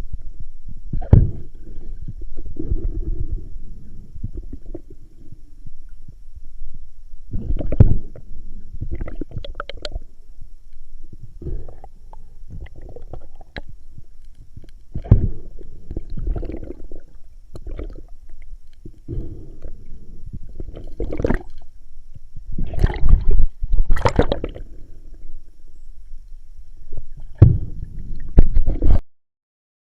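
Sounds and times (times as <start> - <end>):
muffled underwater gurgling: 0.0 - 29.0.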